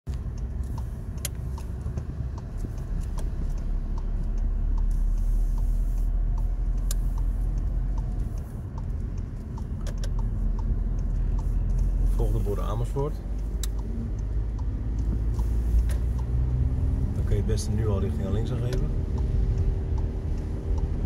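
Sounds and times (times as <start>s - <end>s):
car cabin rumble: 0.1s - 21.0s
turn signal ticking: 0.1s - 21.0s.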